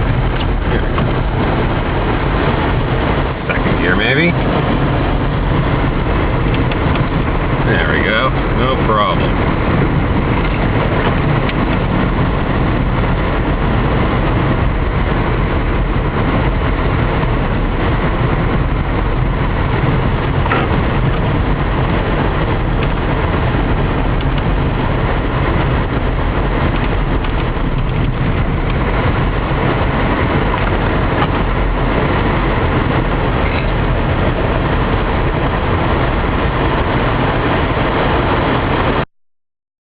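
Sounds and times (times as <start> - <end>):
car engine and tyre noise: 0.0 - 39.1
low steady rumble: 0.0 - 39.1.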